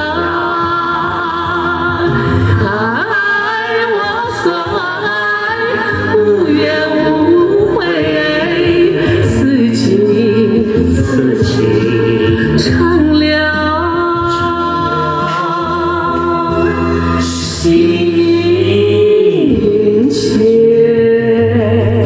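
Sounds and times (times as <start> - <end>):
backing music: 0.0 - 22.0
man and woman singing duet: 0.0 - 22.0.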